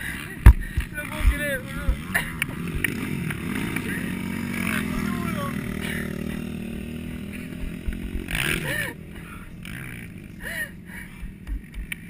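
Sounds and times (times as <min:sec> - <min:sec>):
racing quad engines: 0:00.0 - 0:12.0.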